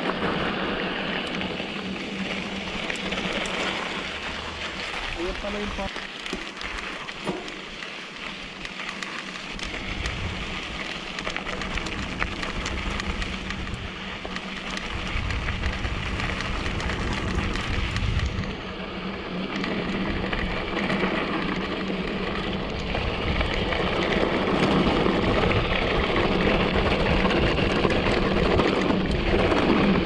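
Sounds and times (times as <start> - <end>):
stones and bike clicking and rattling: 0.0 - 30.0
tyres crunching over gravel: 0.0 - 30.0
wind rumbling on microphone: 0.0 - 30.0.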